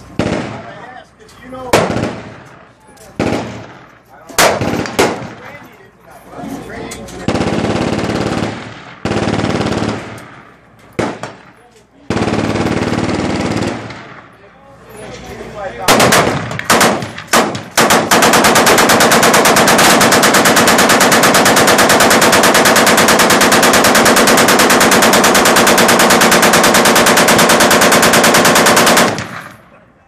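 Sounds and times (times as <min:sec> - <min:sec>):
machine gun firing: 0:00.1 - 0:00.8, 0:01.7 - 0:02.5, 0:03.2 - 0:05.5, 0:07.2 - 0:14.3, 0:15.8 - 0:29.6.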